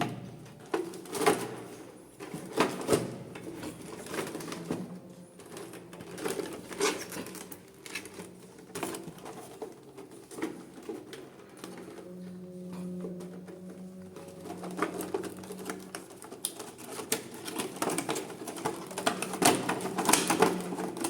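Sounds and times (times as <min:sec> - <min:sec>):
hands handling packaging: 0:00.5 - 0:12.1, 0:13.1 - 0:21.0.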